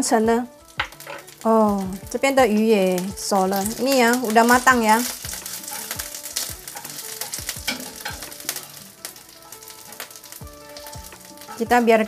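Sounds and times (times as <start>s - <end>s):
fish sizzling in oil: 0.0s - 12.0s
chopsticks tapping a pan: 0.8s - 12.0s.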